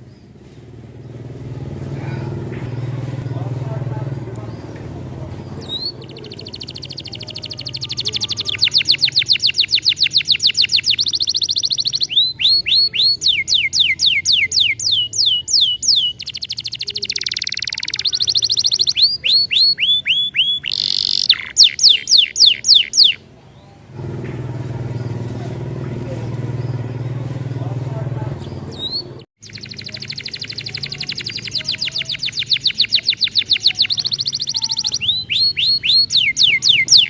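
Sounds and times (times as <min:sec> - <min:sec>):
canary singing: 0:02.3 - 0:25.3, 0:26.0 - 0:37.0.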